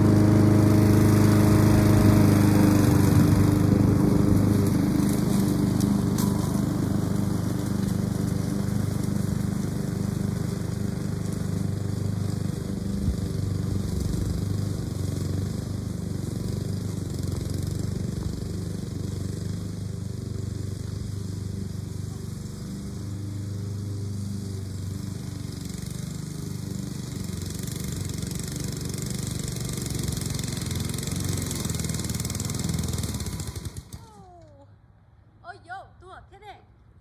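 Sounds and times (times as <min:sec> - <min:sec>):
lawn mower cutting grass: 0:00.0 - 0:34.5.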